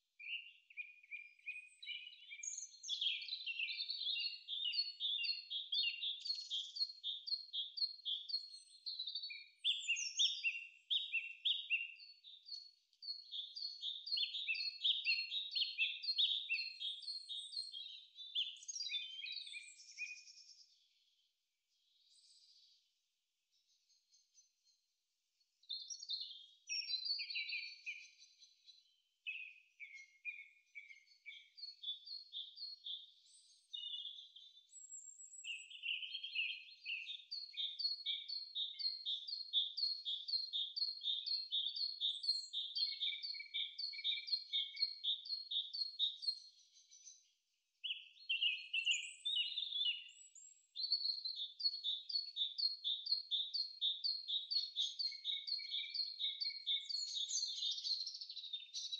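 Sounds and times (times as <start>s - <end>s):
songbird chirping: 0.0s - 58.9s.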